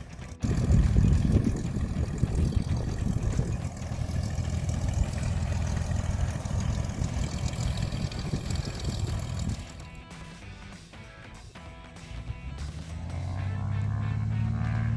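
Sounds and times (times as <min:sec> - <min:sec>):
airplane engine and propeller: 0:00.0 - 0:14.9.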